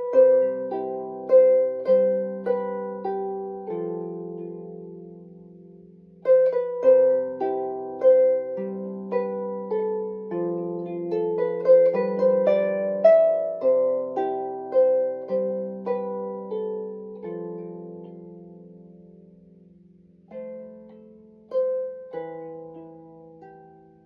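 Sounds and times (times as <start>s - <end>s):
harp plucked: 0.0s - 24.0s.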